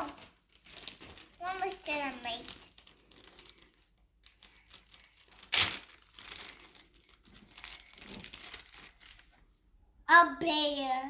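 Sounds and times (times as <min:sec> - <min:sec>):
sharp crackle: 0:00.0 - 0:09.3
crinkling and rustling: 0:00.0 - 0:09.6.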